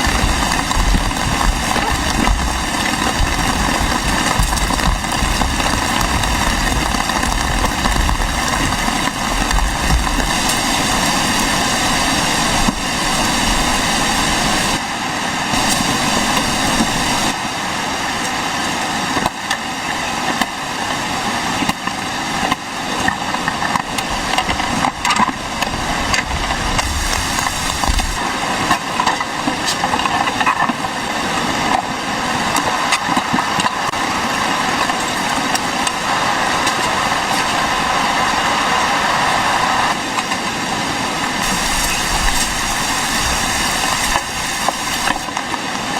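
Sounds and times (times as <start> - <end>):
heavy rain: 0.0 - 45.9
strong wind: 0.0 - 45.9.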